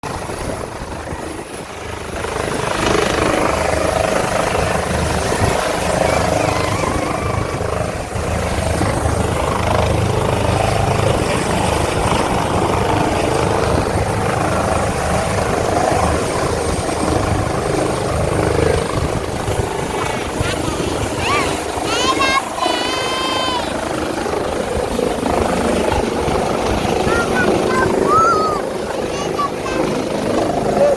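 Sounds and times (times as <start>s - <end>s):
helicopter rotor and turbine: 0.0s - 30.9s.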